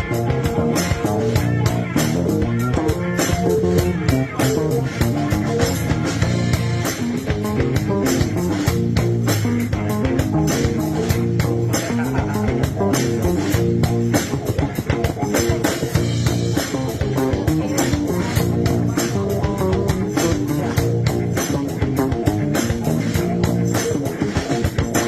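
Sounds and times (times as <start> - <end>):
live band music: 0.0 - 25.0
slapped electric bass: 0.0 - 25.0
steady drum beat: 0.0 - 25.0.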